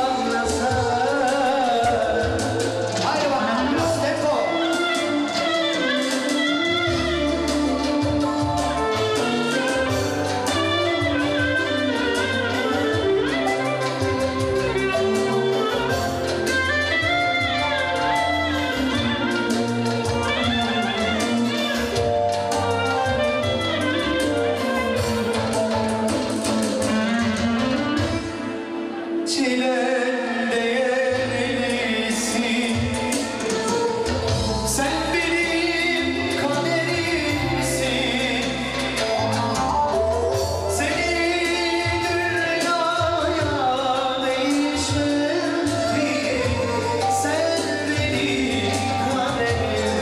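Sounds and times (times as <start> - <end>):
slow song with singer: 0.0 - 50.0.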